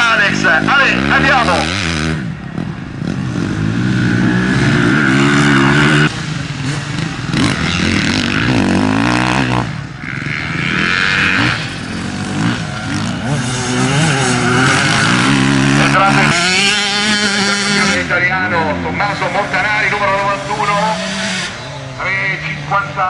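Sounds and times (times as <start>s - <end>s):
motorcycle engines revving: 0.0s - 23.0s.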